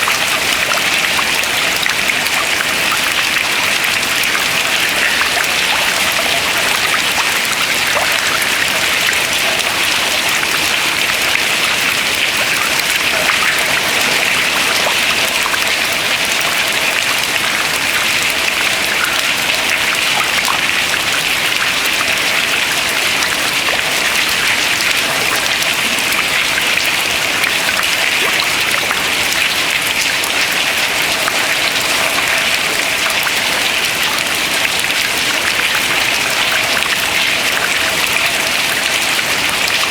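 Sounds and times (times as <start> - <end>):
water dripping into water: 0.0 - 39.9.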